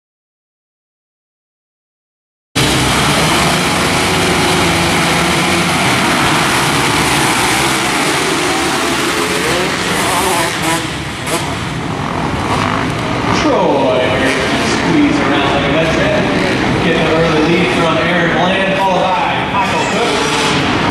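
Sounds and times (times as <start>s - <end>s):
motocross bikes revving and accelerating: 2.6s - 20.9s.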